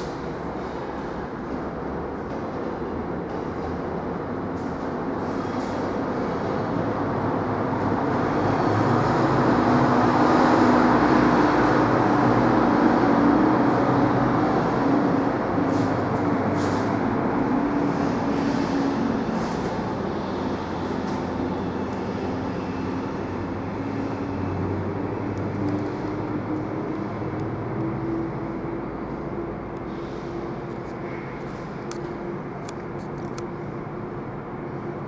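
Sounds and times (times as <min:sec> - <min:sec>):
train running on rails: 0:00.0 - 0:35.0.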